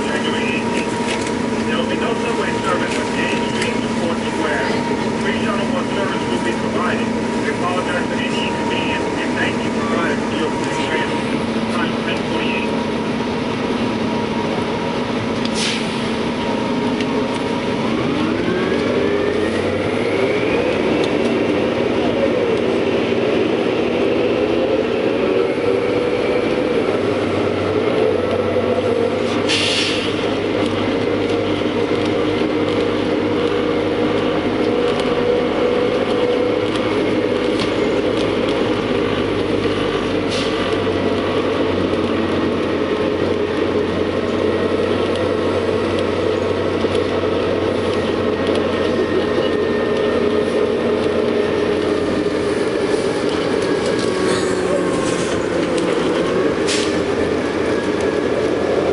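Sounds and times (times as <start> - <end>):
bus engine and transmission whine: 0.0 - 58.9.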